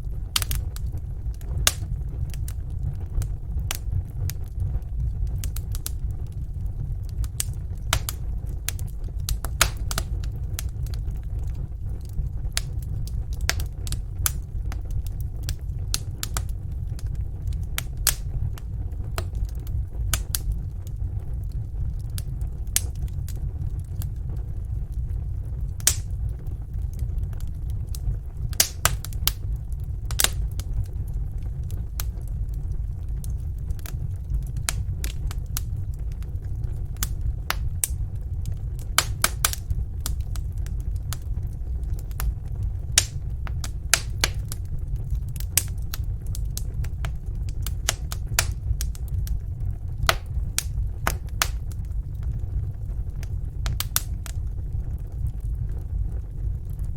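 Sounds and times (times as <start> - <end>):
wood fire crackling: 0.0 - 56.9
sharp pops of fire: 0.1 - 56.9.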